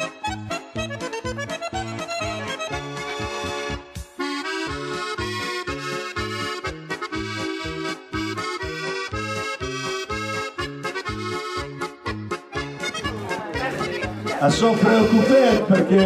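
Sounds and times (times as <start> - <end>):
accordion music: 0.0 - 16.0.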